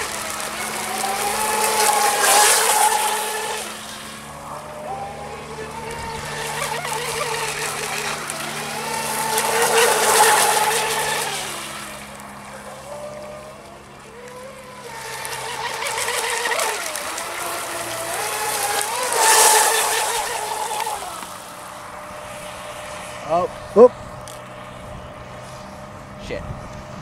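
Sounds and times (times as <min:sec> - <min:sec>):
toy boat motor whine: 0:00.0 - 0:27.0.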